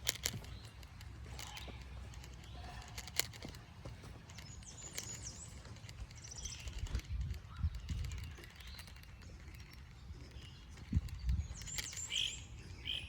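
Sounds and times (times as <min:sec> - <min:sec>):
scattered clicks: 0:00.0 - 0:12.6
songbirds chirping: 0:00.0 - 0:13.0.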